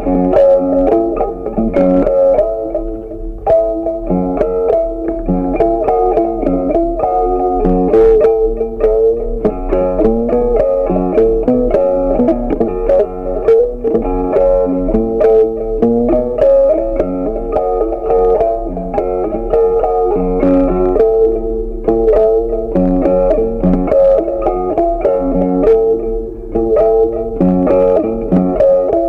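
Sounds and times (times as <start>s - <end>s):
plucked string melody: 0.0s - 29.0s.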